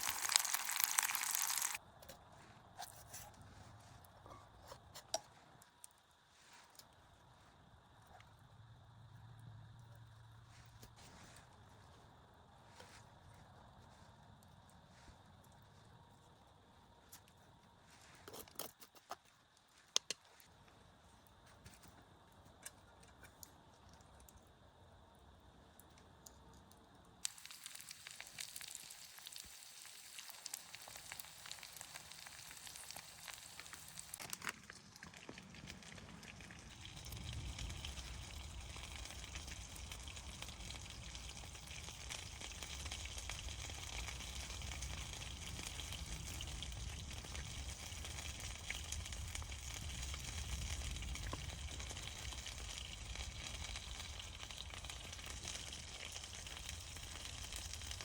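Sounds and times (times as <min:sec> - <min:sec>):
food sizzling over campfire: 0:00.0 - 0:09.0, 0:09.7 - 0:18.4, 0:22.5 - 0:58.0.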